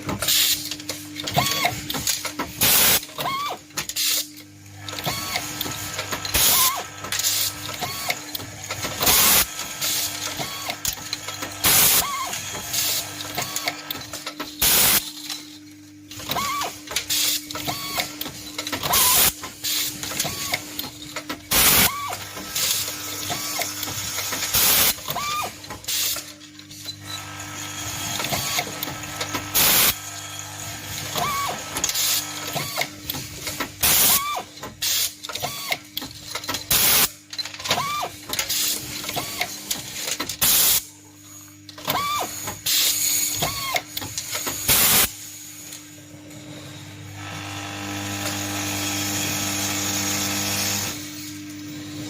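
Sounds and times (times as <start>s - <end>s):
machinery humming and ticking: 0.0s - 52.0s.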